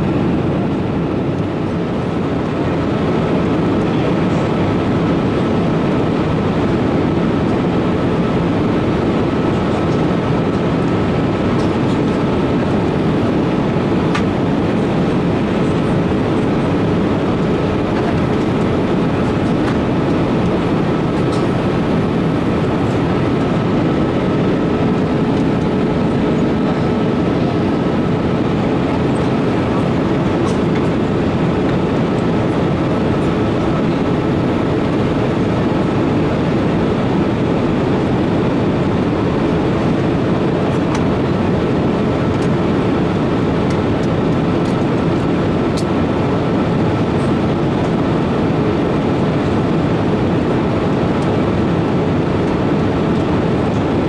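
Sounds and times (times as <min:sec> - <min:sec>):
airliner engines rumbling: 0:00.0 - 0:54.0
faint steady whine: 0:00.0 - 0:54.0.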